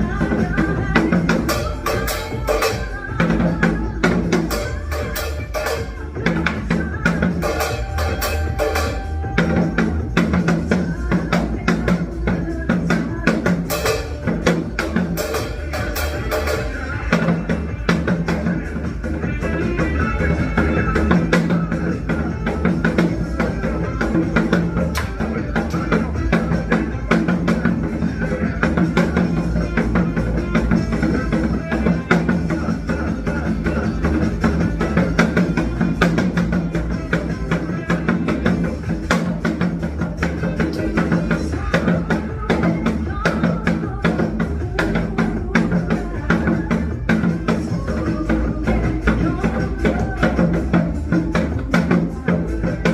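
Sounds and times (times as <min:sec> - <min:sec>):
hourglass drum beats: 0:00.0 - 0:52.9
recorded song playing: 0:00.0 - 0:52.9.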